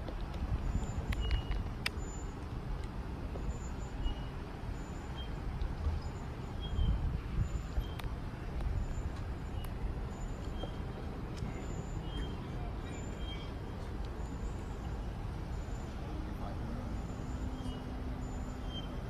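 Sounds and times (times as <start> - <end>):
street rumble: 0.0 - 19.0.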